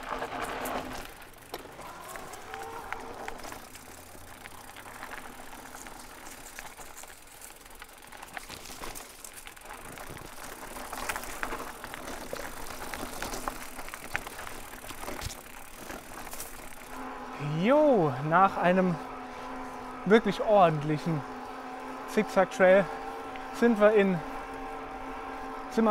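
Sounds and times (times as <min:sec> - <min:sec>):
bike clicks and rattles: 0:00.0 - 0:25.9
tyre noise on loose ground: 0:00.0 - 0:25.9.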